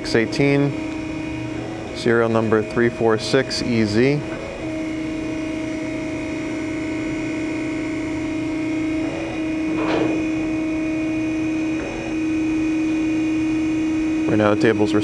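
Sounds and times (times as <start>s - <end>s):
grinder humming and whining: 0.0s - 15.0s.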